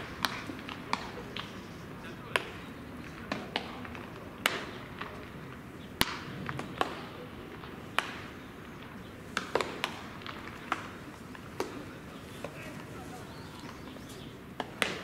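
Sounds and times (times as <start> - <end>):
baseballs smacking into leather gloves: 0.0 - 1.6, 2.3 - 12.8, 13.6 - 15.0.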